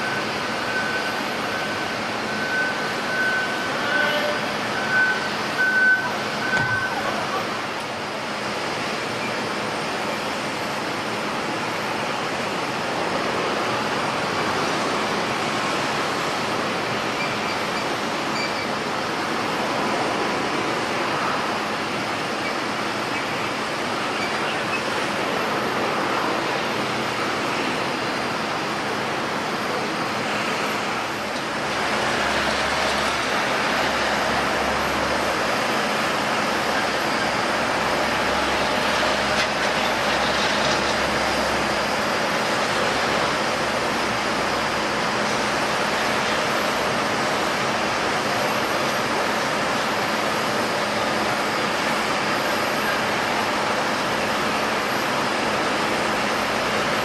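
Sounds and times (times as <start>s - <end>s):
jet airliner engine roar: 0.0s - 57.0s.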